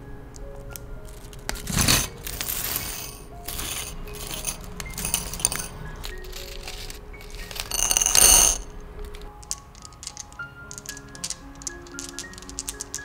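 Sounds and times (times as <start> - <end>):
metal jewelry clinking onto ceramic dish: 1.1 - 13.0.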